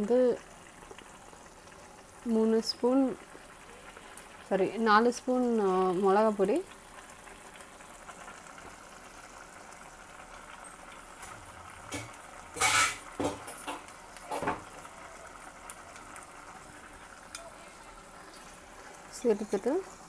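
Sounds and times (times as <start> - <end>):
pan sizzling: 0.0 - 20.0.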